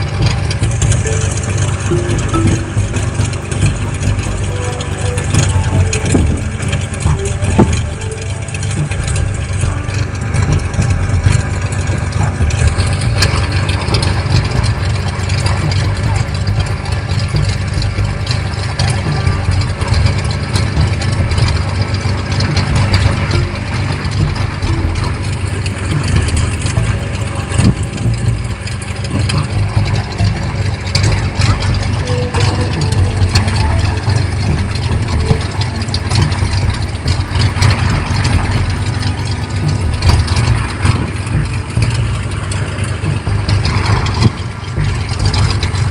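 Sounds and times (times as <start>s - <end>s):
aircraft engine idling: 0.0s - 45.9s.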